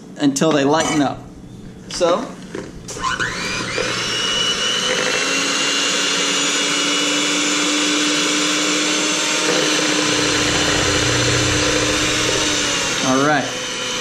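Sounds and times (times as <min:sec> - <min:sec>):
electric hand mixer whining: 0:01.3 - 0:14.0.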